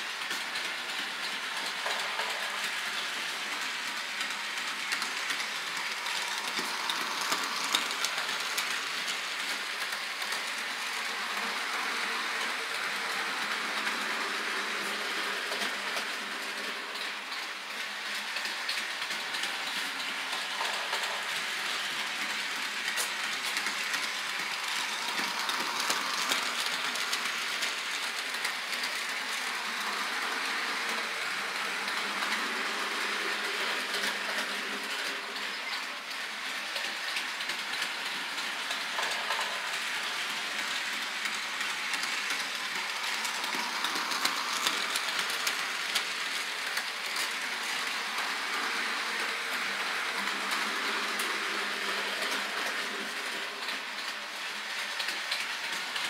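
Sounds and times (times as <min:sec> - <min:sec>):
model train whirring: 0:00.0 - 0:56.0
wheels clicking on rails: 0:00.0 - 0:56.0.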